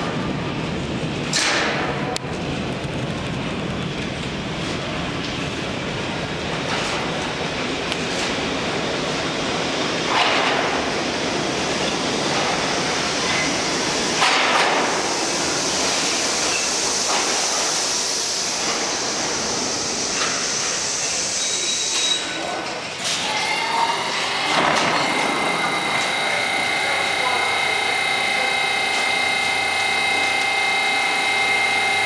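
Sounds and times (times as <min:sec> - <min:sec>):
subway train wheels rumbling on rail: 0:00.0 - 0:32.0
high-pitched train sound: 0:02.0 - 0:32.0.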